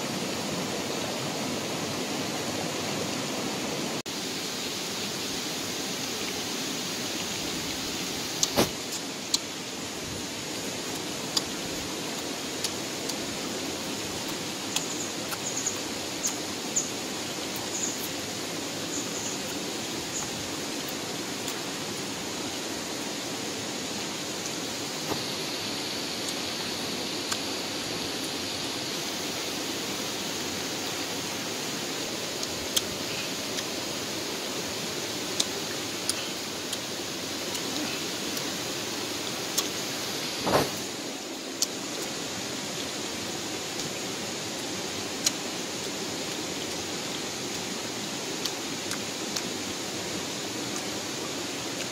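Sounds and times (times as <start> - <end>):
hissing outdoor background noise: 0.0 - 51.9.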